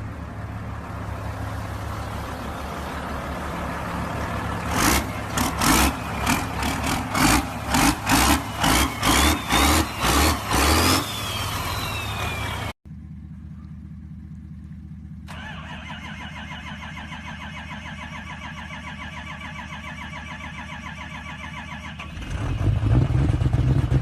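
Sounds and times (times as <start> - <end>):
engine whine: 0.0 - 24.0
truck engine idling and revving: 0.0 - 24.0.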